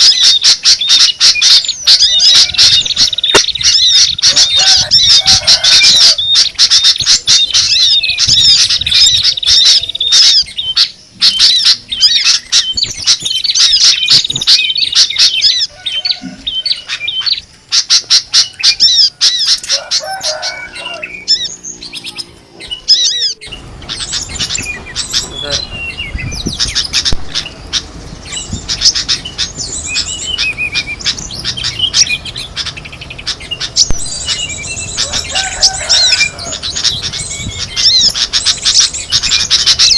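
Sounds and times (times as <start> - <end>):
background noise: 0.0 - 39.9
songbirds chirping and whistling: 0.0 - 39.9.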